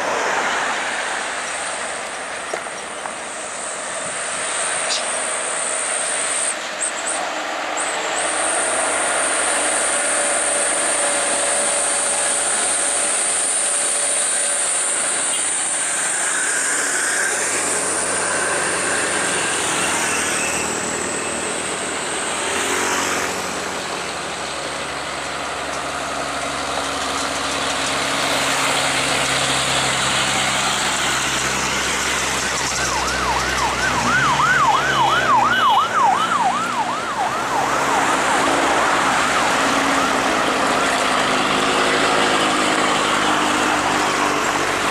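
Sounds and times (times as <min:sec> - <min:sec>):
truck engines passing: 0:00.0 - 0:44.9
warbling siren: 0:03.5 - 0:44.9.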